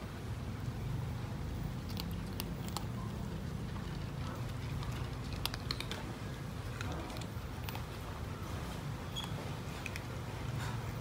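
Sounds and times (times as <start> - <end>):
cat crunching kibble: 1.6 - 11.0.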